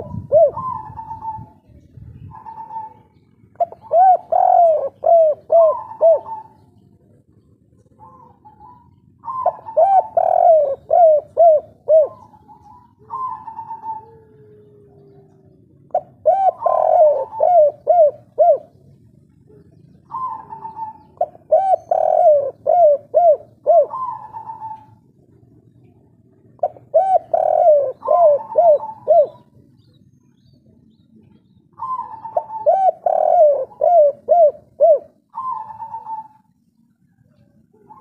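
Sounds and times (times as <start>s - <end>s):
dove cooing: 0.0s - 30.0s, 30.6s - 38.0s.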